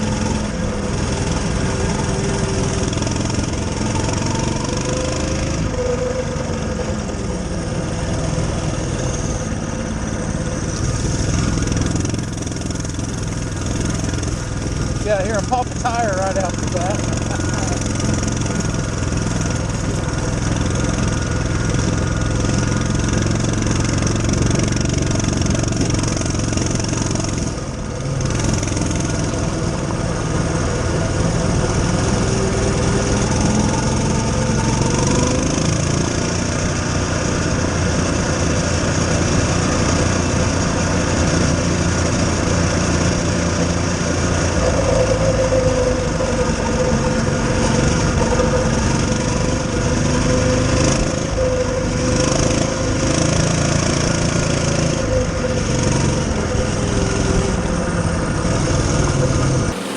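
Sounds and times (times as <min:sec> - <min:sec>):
mini bike engine running: 0:00.0 - 0:59.9.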